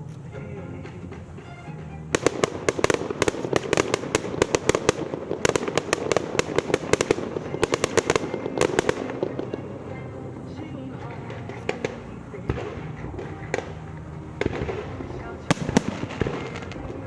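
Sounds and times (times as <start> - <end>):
fireworks cracking and banging: 0.8 - 17.0.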